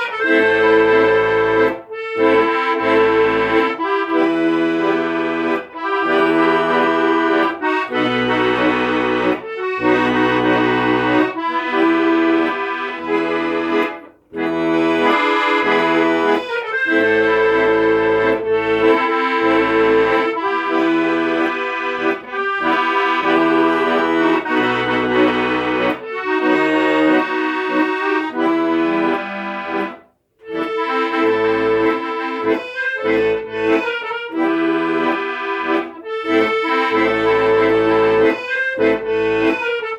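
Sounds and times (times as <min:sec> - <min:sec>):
accordion playing melody: 0:00.0 - 0:39.9.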